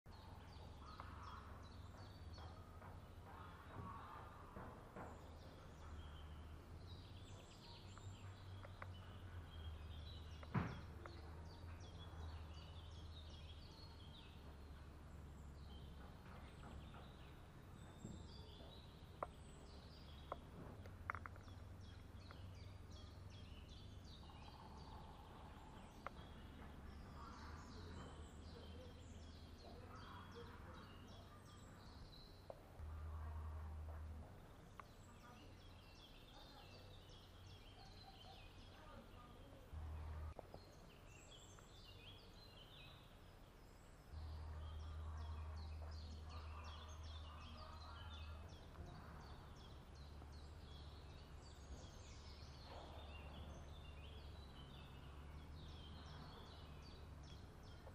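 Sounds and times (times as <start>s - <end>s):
small birds chirping: 0.0s - 57.9s
low steady hum: 0.1s - 57.9s.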